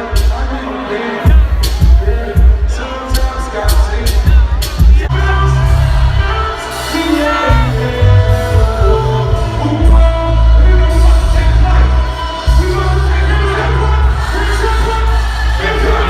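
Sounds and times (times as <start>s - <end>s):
heavy bass: 0.0s - 16.0s.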